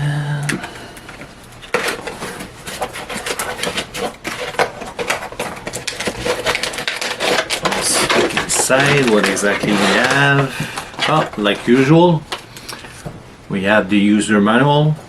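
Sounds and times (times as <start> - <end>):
cardboard packaging crinkling: 0.6 - 13.8.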